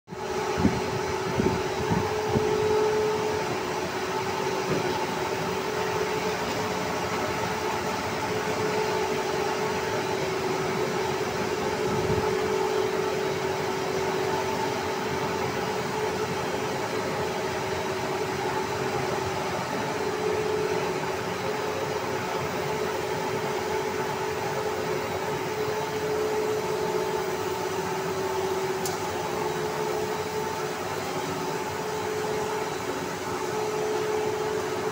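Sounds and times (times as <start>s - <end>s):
constant pitched whine: 0.1s - 34.9s
industrial machine hum: 0.1s - 34.9s.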